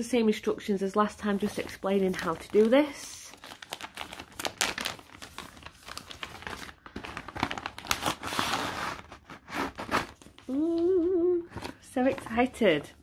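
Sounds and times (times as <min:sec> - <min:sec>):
paper and plastic crinkling: 0:01.2 - 0:13.0.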